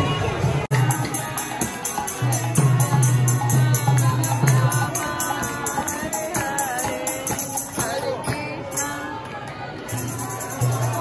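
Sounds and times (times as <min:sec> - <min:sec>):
harmonium: 0:00.0 - 0:11.0
voices chanting in song: 0:00.0 - 0:11.0
metallic jingle beat: 0:00.7 - 0:09.2, 0:09.8 - 0:11.0.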